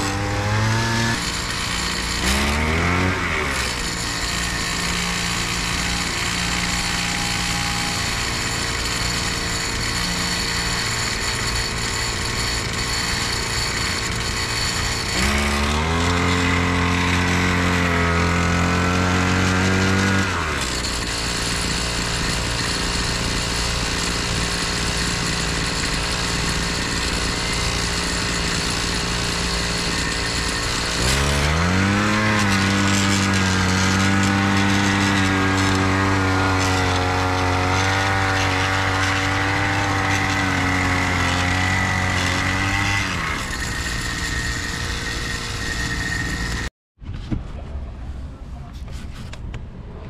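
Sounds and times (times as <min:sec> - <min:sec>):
small tiller engine: 0:00.0 - 0:46.7.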